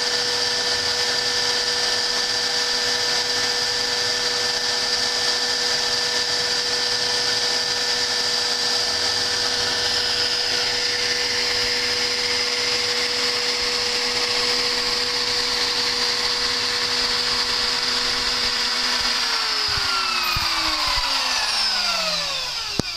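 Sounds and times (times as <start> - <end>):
spindle motor whining: 0.0 - 22.9.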